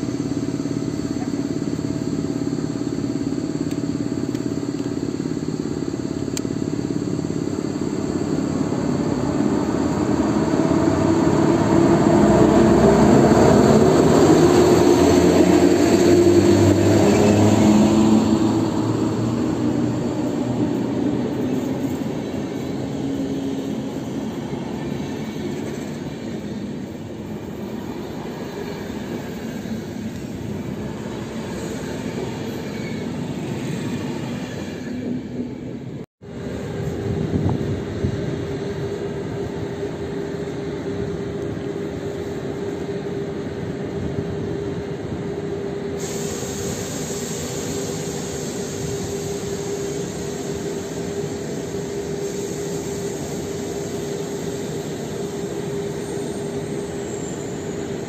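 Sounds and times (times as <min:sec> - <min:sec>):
electric locomotive rumble and hum: 0:00.0 - 0:58.0
train coaches rolling by: 0:00.0 - 0:58.0.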